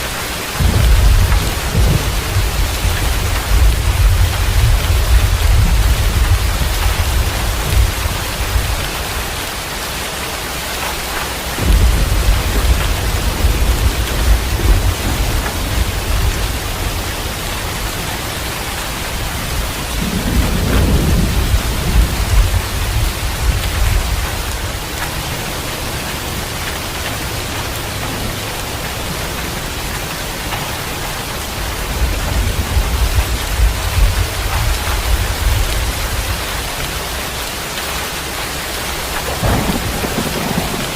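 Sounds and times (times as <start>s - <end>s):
thunder rumbling: 0.0s - 9.6s, 10.9s - 37.7s, 38.6s - 40.9s
heavy rain: 0.0s - 40.9s.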